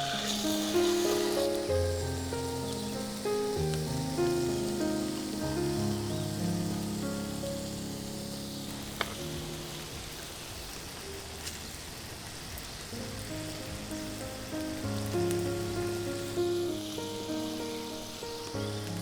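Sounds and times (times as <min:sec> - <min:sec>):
food sizzling in a pan: 0:00.0 - 0:19.0
soft melodic music: 0:00.0 - 0:19.0.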